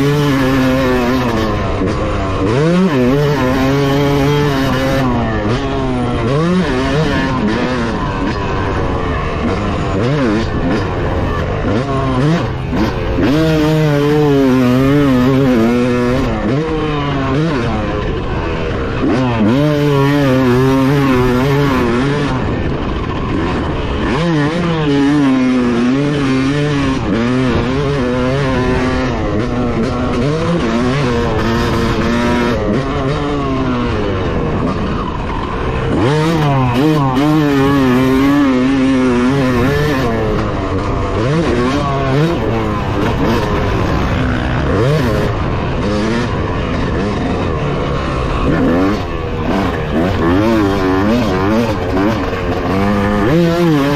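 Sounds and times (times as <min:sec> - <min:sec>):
two-stroke motocross bike engine revving: 0:00.0 - 0:53.9.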